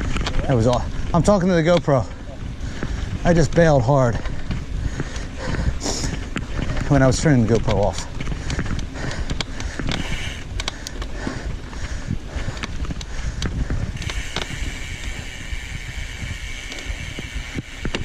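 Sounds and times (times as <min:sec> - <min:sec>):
bicycle rolling over rough ground: 0:00.0 - 0:18.0
bike rattling and knocking: 0:00.0 - 0:18.0
wind buffeting microphone: 0:00.0 - 0:18.0.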